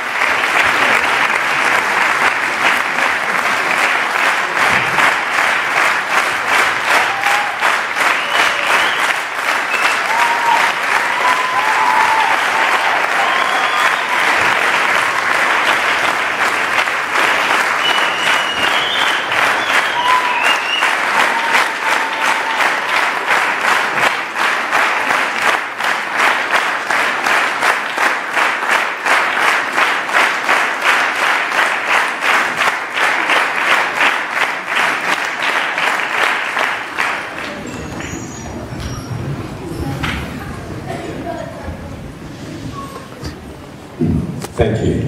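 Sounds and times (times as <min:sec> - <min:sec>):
rhythmic clapping in unison: 0:00.0 - 0:38.3
audience applauding: 0:00.0 - 0:39.0.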